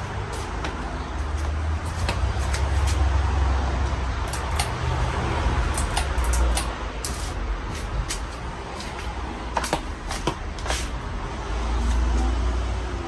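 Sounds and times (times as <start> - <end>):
ceiling fan air rushing: 0.0 - 13.0.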